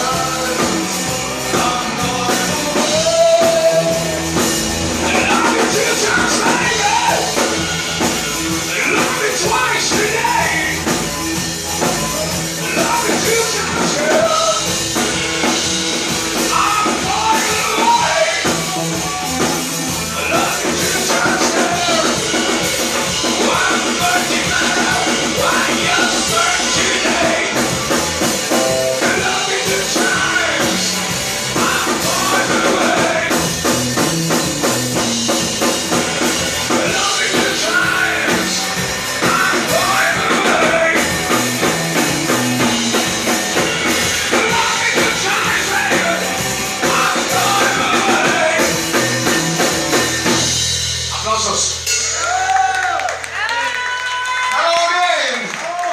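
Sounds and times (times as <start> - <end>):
drums: 0.0 - 55.9
rock music with singing: 0.0 - 55.9.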